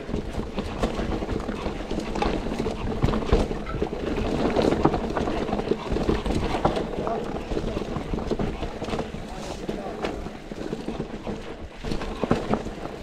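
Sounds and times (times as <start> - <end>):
bike rattling and knocking: 0.0 - 13.0
bike tyres on dirt and stones: 0.0 - 13.0.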